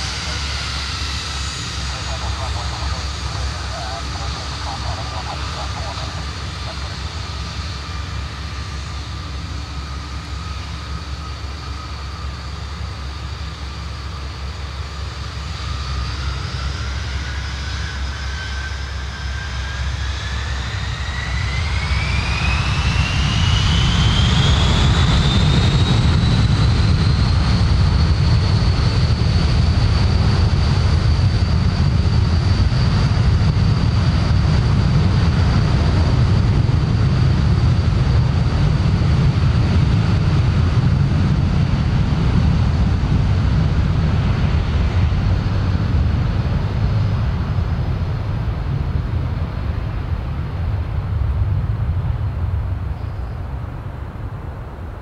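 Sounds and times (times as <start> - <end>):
deep engine rumble: 0.0 - 55.0
jet engine whine rising in pitch: 0.0 - 55.0.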